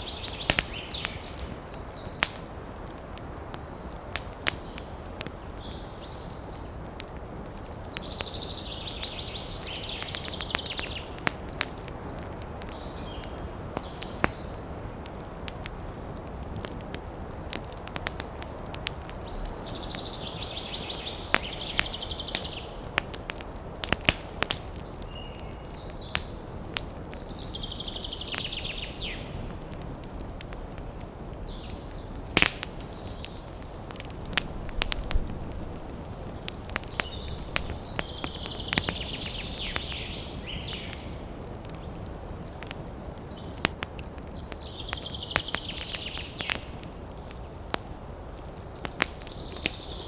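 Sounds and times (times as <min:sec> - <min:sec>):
campfire wood crackling: 0:00.0 - 0:50.0.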